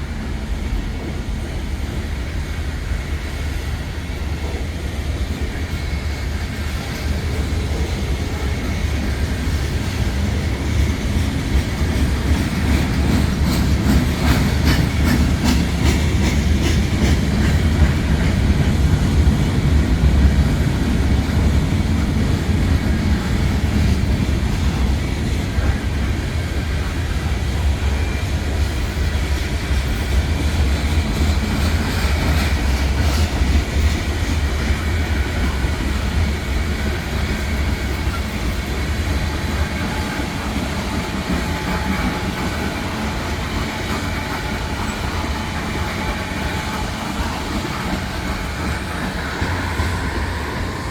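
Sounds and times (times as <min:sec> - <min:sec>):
train wheels rumbling on rail: 0:00.0 - 0:50.9
wheels clicking over rail joints: 0:04.4 - 0:50.9.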